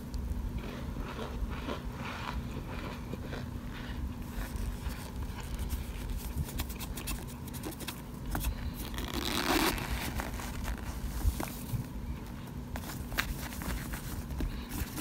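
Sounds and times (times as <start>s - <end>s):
crunchy chunks crackling: 0.0s - 15.0s.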